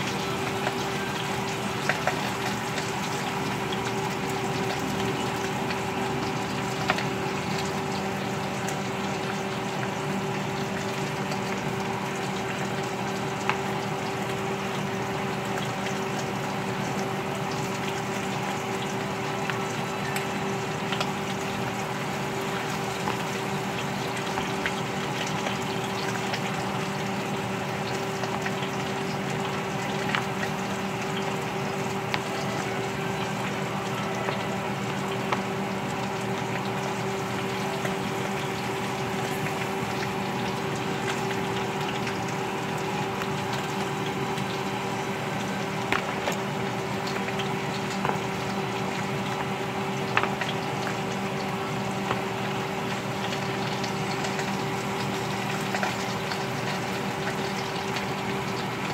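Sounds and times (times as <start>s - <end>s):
oil popping: 0.0s - 58.9s
potato slices frying in oil: 0.0s - 58.9s.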